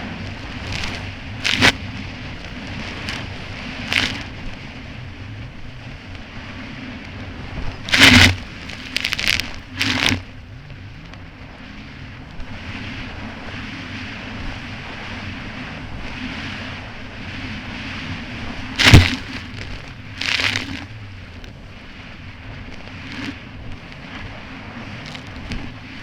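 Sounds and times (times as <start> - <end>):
hull slapping choppy water: 0.0 - 5.2, 5.8 - 10.4, 12.6 - 26.0.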